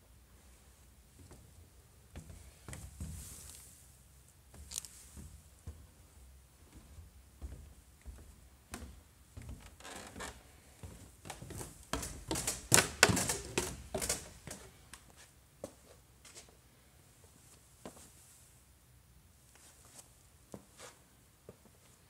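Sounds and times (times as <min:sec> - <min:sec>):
footsteps indoors: 0:00.7 - 0:16.6, 0:17.2 - 0:18.2, 0:19.5 - 0:22.0.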